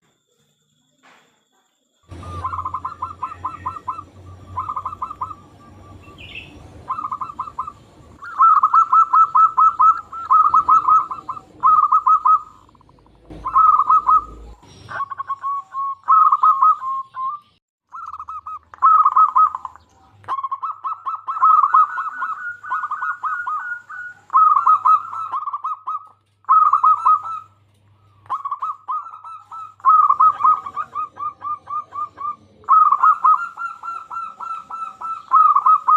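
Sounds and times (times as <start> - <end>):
dove cooing: 2.1 - 35.9.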